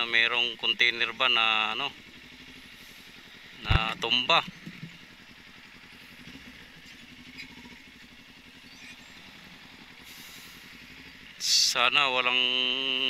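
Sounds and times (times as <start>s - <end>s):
vehicle engine and road noise: 0.0s - 13.0s
faint low drone: 1.2s - 13.0s.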